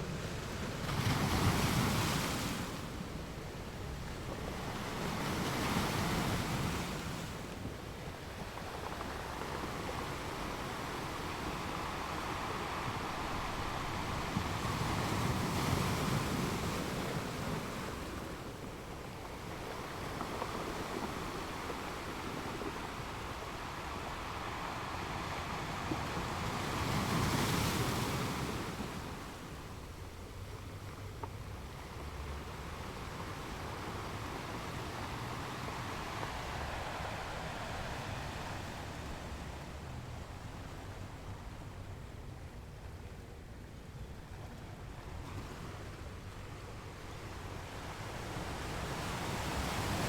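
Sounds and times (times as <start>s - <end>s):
ocean waves breaking: 0.0s - 42.0s, 44.6s - 50.0s.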